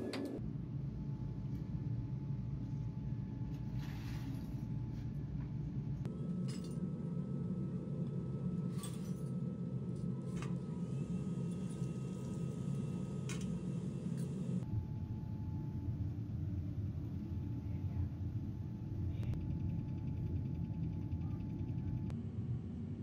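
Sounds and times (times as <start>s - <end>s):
furnace burning low rumble: 0.0s - 23.0s.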